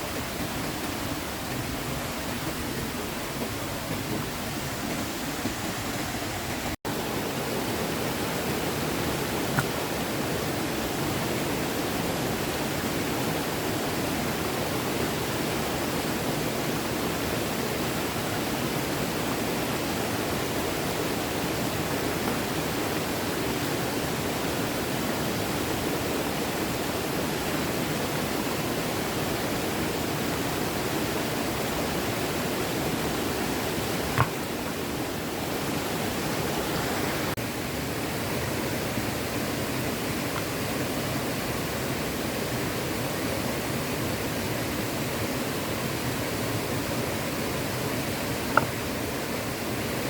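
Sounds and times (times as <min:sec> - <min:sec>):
stream flowing: 0:00.0 - 0:50.0.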